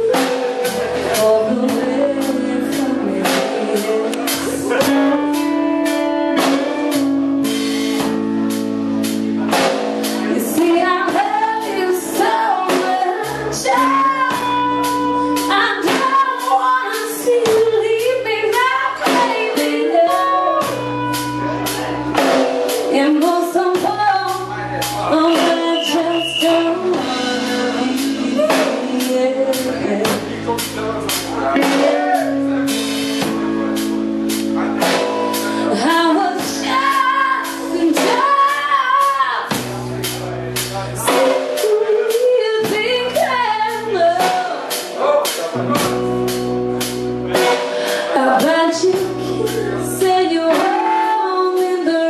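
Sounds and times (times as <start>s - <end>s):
woman singing: 0.0s - 8.3s, 9.6s - 30.5s, 35.0s - 39.7s, 41.0s - 44.9s, 47.3s - 52.0s
steady drum beat: 0.0s - 51.9s
electric guitar: 0.0s - 52.0s.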